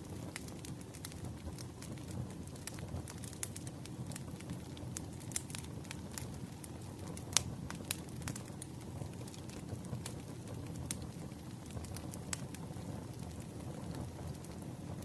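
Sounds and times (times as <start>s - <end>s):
campfire pops and snaps: 0.0s - 15.0s.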